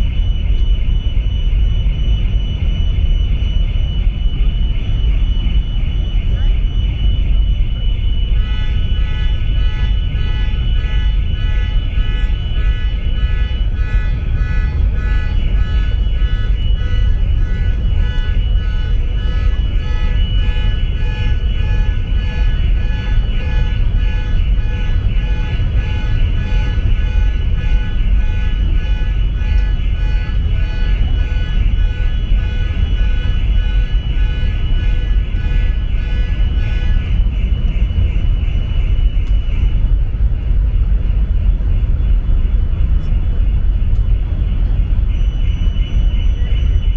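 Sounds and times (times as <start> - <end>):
loud low ferry rumble: 0.0 - 46.9.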